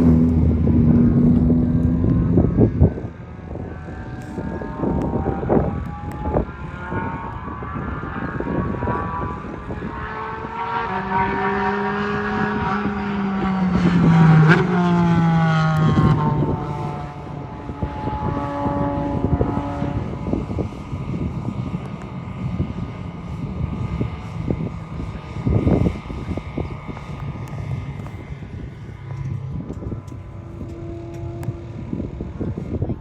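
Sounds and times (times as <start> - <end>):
car engine passing at speed: 0.0 - 33.0.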